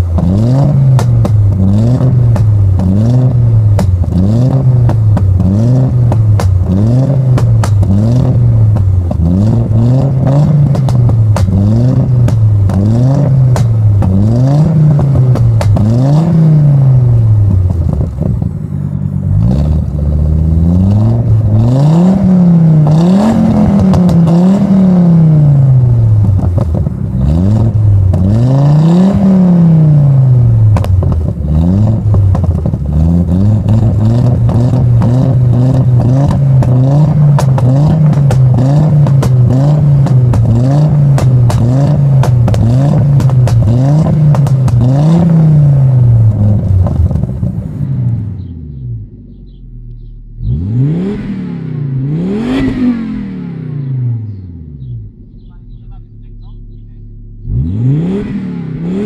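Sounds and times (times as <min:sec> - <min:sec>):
exhaust pops and crackles: 0:00.0 - 0:50.5, 0:54.8 - 0:57.5
car engine revving: 0:00.0 - 0:59.0.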